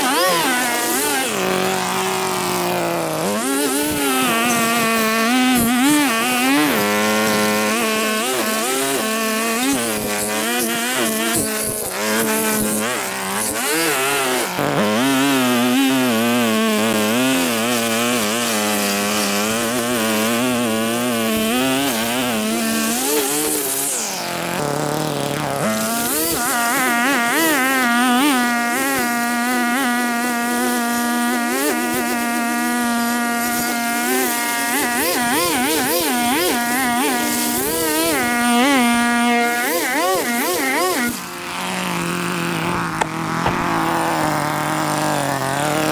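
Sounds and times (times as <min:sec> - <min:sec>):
small petrol engine buzzing: 0:00.0 - 0:45.9.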